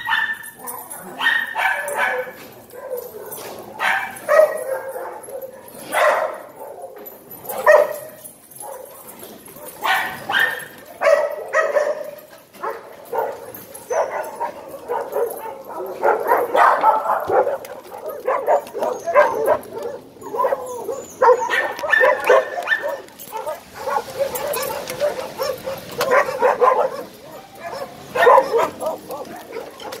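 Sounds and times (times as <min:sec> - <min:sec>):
dogs barking and yipping: 0:00.0 - 0:30.0.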